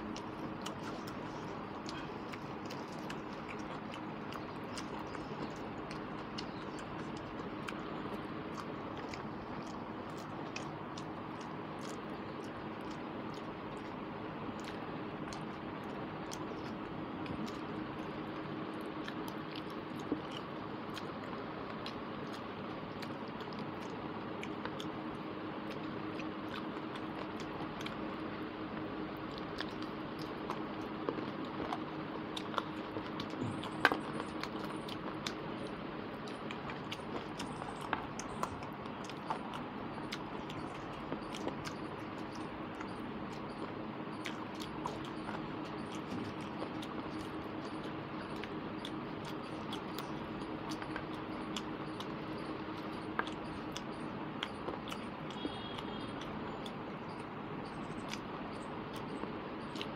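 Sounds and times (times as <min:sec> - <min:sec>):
mouth clicks: 0:00.0 - 0:59.9
steady low hum: 0:00.0 - 0:59.9
wet chewing: 0:00.0 - 0:59.9.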